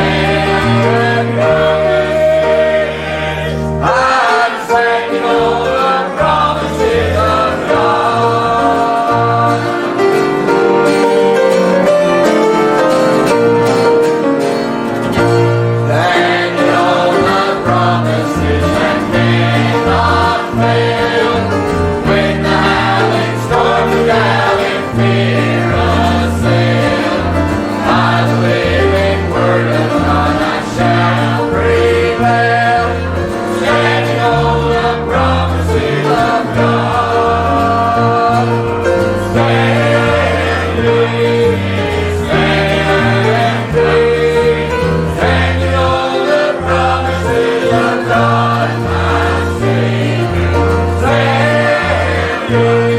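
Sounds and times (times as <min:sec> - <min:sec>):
choir singing a hymn: 0:00.0 - 0:52.9
instrumental accompaniment: 0:00.0 - 0:52.9.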